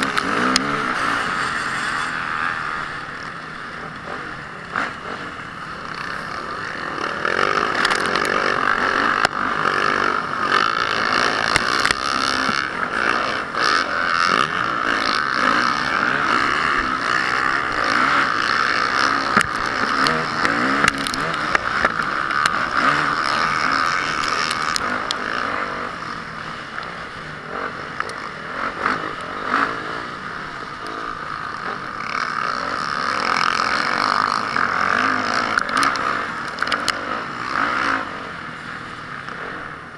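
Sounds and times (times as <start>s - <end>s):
clatter and clicks: 0.0s - 38.1s
motocross engine revving: 0.0s - 39.9s.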